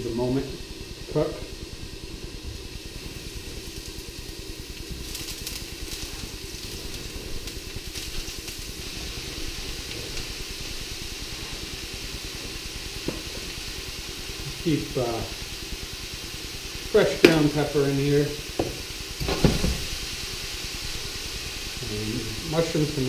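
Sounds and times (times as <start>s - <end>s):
steady low rumble: 0.0s - 19.2s
vegetables sizzling in oil: 0.0s - 23.0s.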